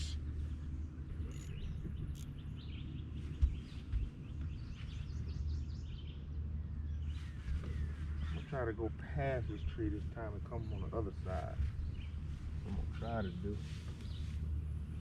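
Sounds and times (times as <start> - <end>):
birds chirping faintly: 0.0 - 15.0
steady low hum: 0.0 - 15.0.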